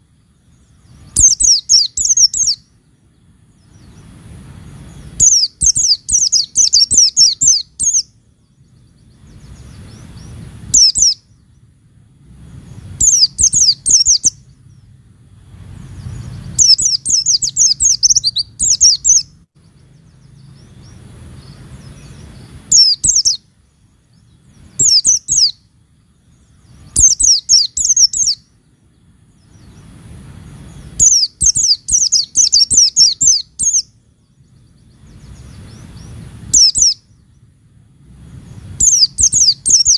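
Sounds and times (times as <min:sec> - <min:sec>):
bird twittering: 0:00.0 - 0:11.7, 0:12.5 - 0:15.0, 0:15.7 - 0:37.5, 0:38.3 - 0:39.9
faint low background noise: 0:00.0 - 0:39.9.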